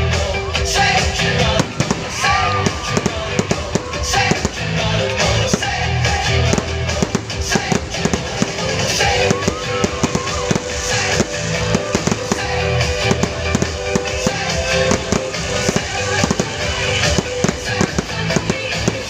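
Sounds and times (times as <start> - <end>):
fireworks bangs and crackles: 0.0 - 19.0
song playing in background: 0.0 - 19.0.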